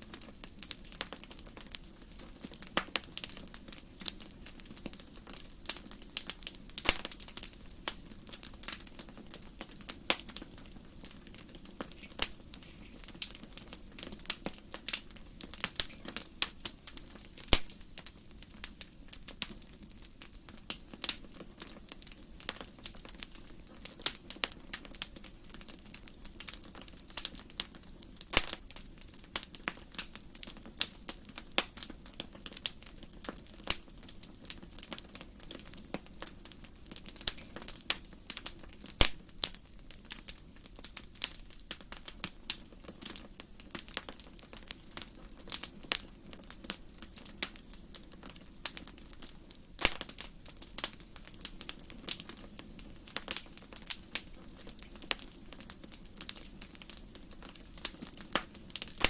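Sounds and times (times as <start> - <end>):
low steady hiss: 0.0 - 59.0
wood fire crackling and popping: 0.0 - 59.0.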